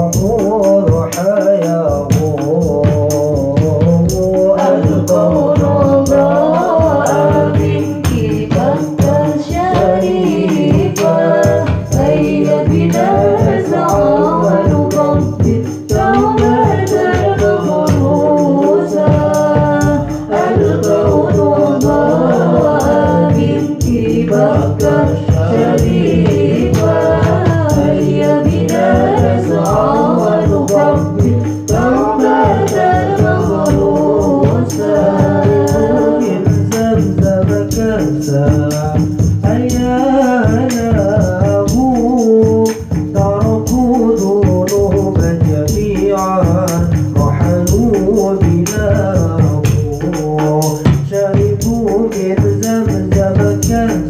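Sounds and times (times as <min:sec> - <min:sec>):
frame drums: 0:00.0 - 0:54.0
hand drum: 0:00.0 - 0:54.0
voices singing devotional melody: 0:00.0 - 0:54.0.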